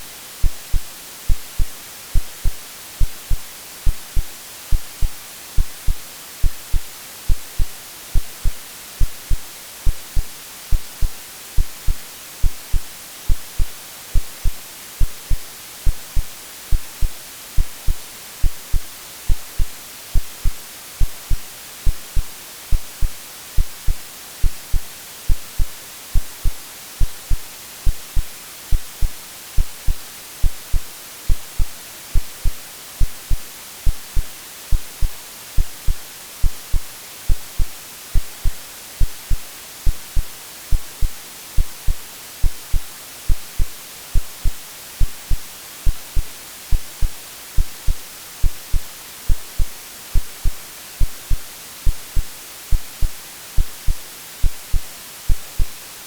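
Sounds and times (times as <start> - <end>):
white noise hiss: 0.0 - 56.0
heartbeat thumps: 0.4 - 55.8.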